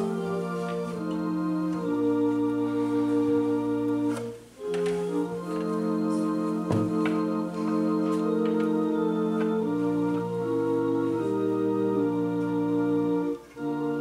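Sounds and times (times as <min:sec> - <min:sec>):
organ playing held chords: 0:00.0 - 0:14.0.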